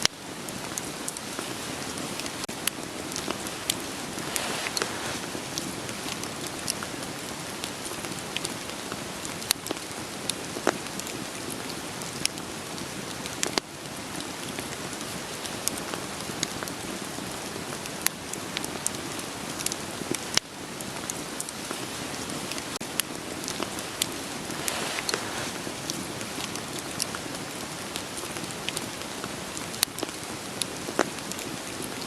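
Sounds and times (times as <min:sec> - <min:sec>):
rain falling: 0:00.0 - 0:32.0
firewood crackling and popping: 0:00.1 - 0:32.0.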